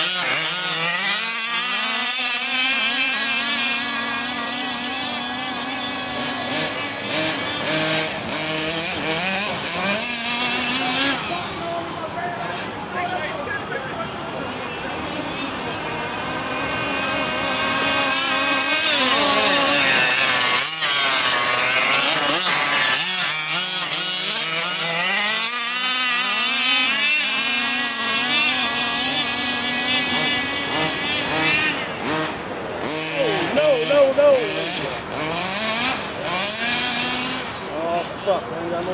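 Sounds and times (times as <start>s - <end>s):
small two-stroke engine revving: 0.0s - 38.9s.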